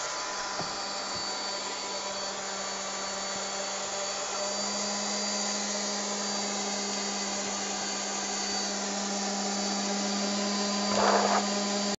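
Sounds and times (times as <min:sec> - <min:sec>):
electric motor humming and whining: 0:00.0 - 0:11.9.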